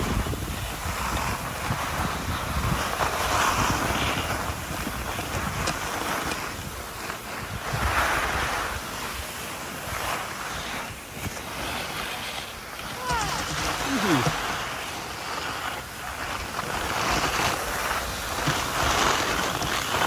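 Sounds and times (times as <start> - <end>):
skis scraping over snow: 0.0 - 20.0
wind rumbling on microphone: 0.0 - 20.0.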